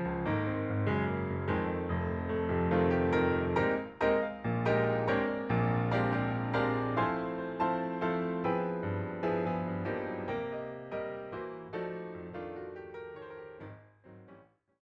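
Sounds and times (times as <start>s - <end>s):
piano music: 0.0s - 14.4s.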